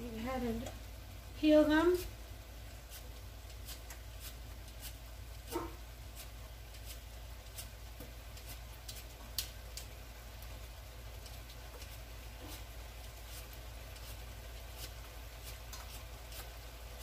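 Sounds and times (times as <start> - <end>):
low steady hum: 0.0 - 17.0
potato peeling scrapes: 1.9 - 9.8, 11.3 - 17.0.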